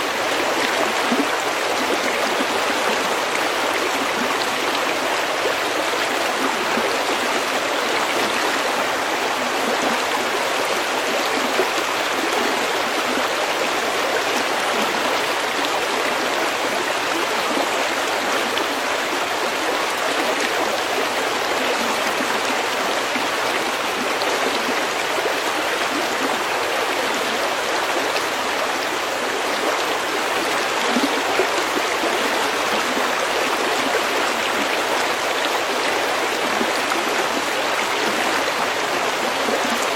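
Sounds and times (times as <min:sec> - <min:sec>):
stream babbling over pebbles: 0:00.0 - 0:39.9.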